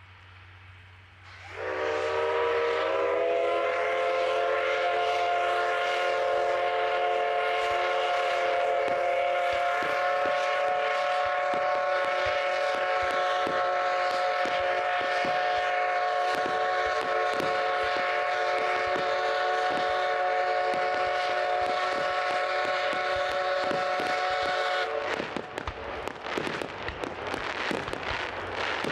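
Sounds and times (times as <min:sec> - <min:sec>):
train running past: 0:00.0 - 0:28.9.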